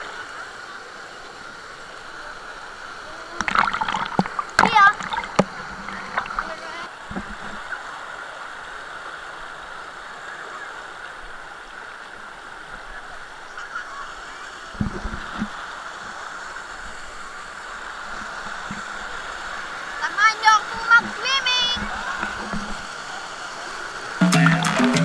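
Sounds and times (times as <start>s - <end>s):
flowing water: 0.0s - 25.0s.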